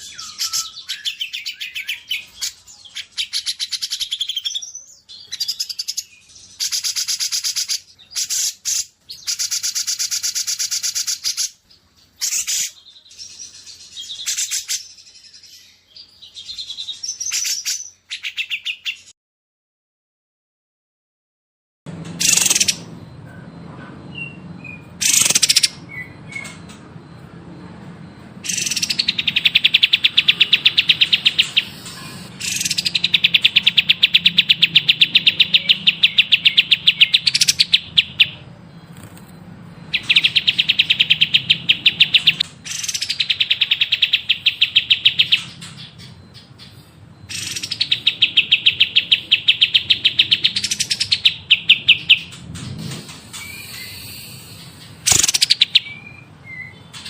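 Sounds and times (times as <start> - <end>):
songbird calls and trills: 0.0 - 19.1, 22.1 - 27.3, 28.0 - 57.0.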